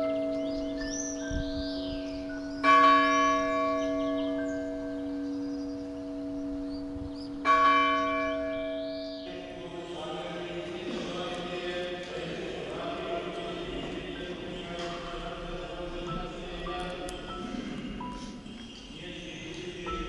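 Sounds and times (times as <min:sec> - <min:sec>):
church bell ringing: 0:00.0 - 0:20.0.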